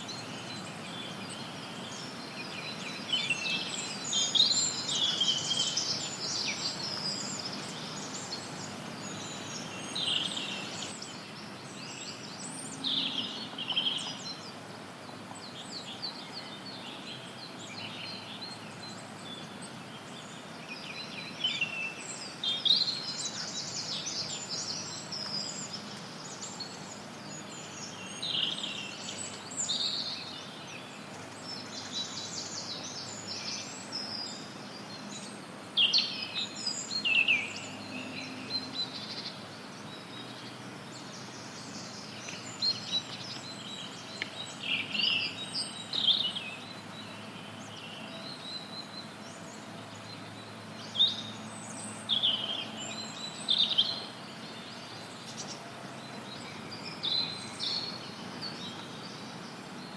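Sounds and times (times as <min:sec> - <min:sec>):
songbirds chirping and singing: 0:00.0 - 0:59.9
white noise hiss: 0:00.0 - 0:59.9.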